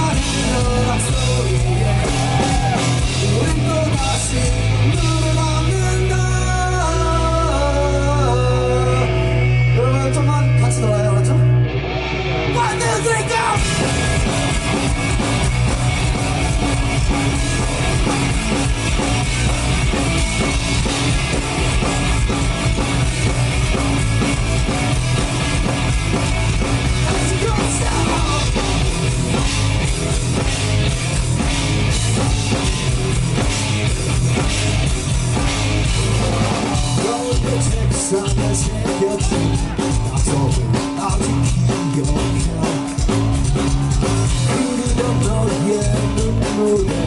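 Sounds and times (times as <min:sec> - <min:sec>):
drum kit: 0:00.0 - 0:09.6, 0:12.5 - 0:47.0
bass guitar: 0:00.0 - 0:47.0
distorted guitars: 0:00.0 - 0:47.0.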